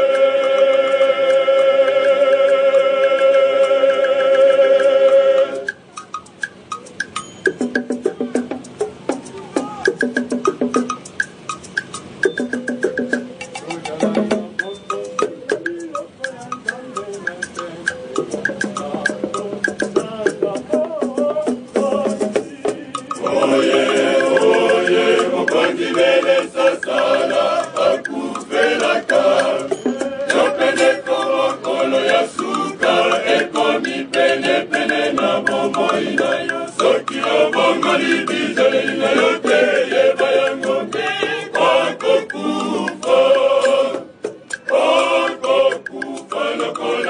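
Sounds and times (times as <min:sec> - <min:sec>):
male choir singing: 0:00.0 - 0:05.8, 0:13.8 - 0:47.0
hand drums: 0:00.0 - 0:47.0
shakers: 0:00.0 - 0:47.0.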